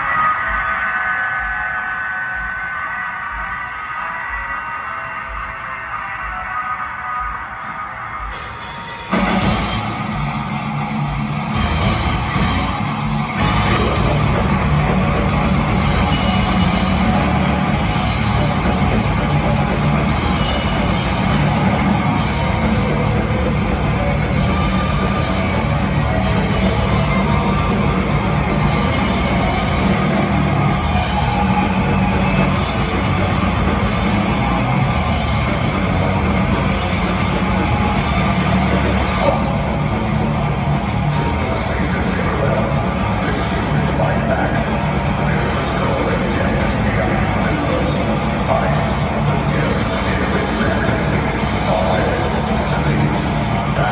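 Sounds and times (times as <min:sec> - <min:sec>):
distorted electric guitars: 0:00.0 - 0:53.9
drum kit: 0:08.2 - 0:53.9.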